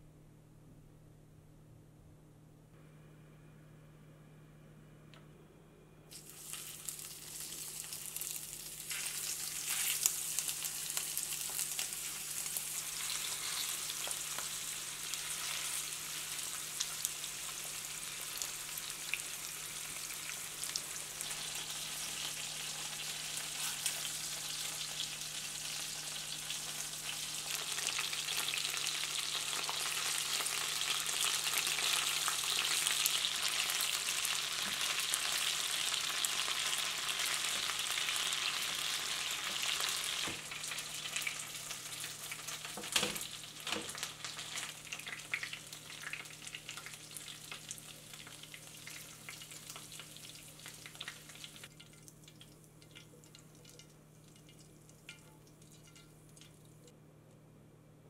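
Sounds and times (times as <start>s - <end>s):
chicken sizzling in a frying pan: 6.1s - 56.5s
oil crackling and popping: 6.1s - 56.9s.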